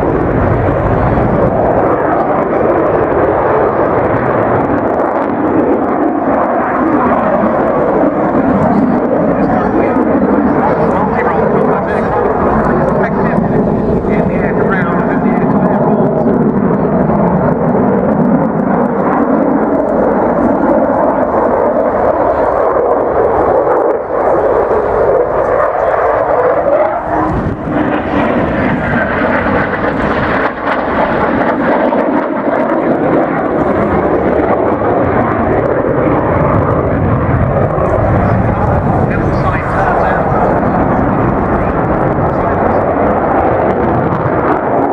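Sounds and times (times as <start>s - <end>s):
fast jet passing: 0.0s - 44.9s.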